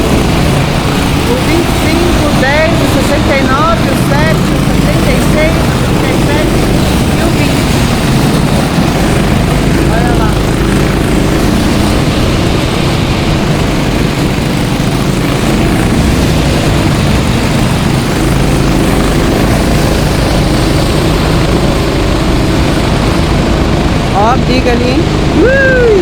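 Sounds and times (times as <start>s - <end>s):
go-kart engines droning: 0.0s - 26.0s.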